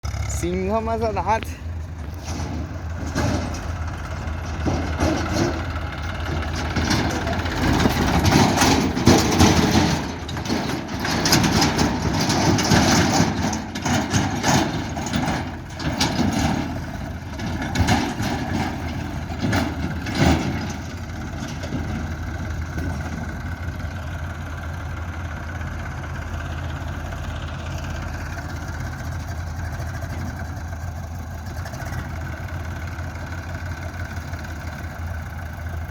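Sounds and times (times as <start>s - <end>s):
diesel engine running: 0.0s - 35.9s
clanks and knocks: 0.8s - 24.4s, 27.3s - 35.9s.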